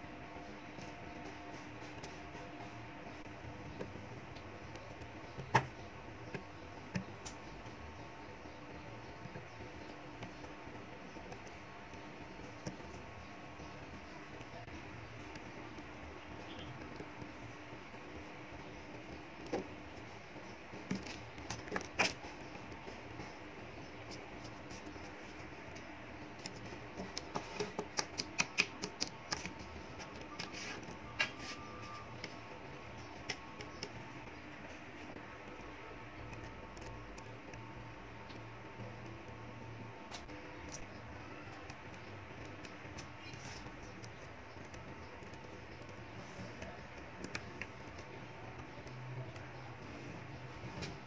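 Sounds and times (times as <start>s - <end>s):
magnetic balls clicking: 0.0s - 51.0s.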